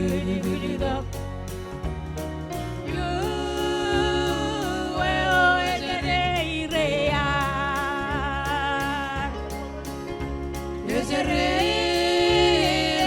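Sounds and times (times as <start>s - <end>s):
instrumental backing with bass: 0.0s - 13.0s
steady drum beat: 0.0s - 13.0s.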